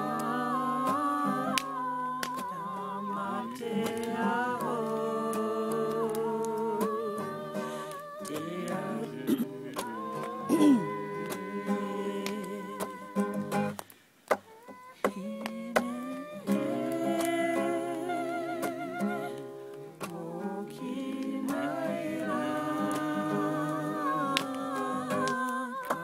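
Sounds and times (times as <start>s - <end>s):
person singing and humming: 0.0s - 13.8s, 14.4s - 19.4s, 20.0s - 26.0s
acoustic guitar strumming: 3.1s - 13.8s, 15.7s - 26.0s.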